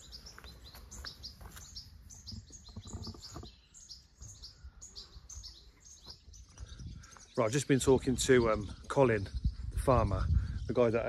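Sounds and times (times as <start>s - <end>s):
small songbirds chirping: 0.0s - 11.0s.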